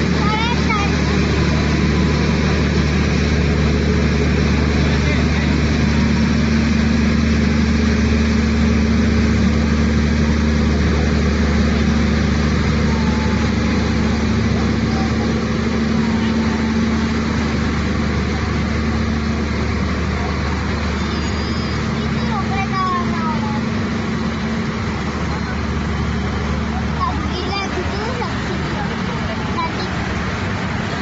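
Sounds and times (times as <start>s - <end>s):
train engine drone: 0.0s - 31.0s.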